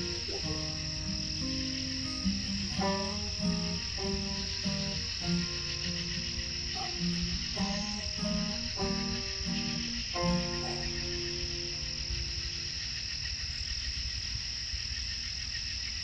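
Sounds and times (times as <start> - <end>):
frog croaking: 0.0 - 16.0
insects trilling: 0.0 - 16.0.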